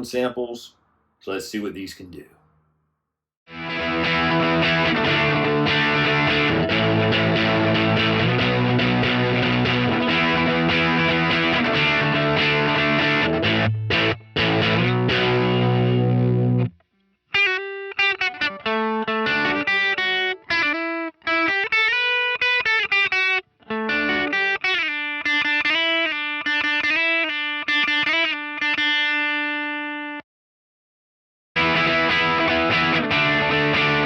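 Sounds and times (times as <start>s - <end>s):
overdriven electric guitar: 3.5s - 16.8s, 17.4s - 30.2s, 31.6s - 34.0s.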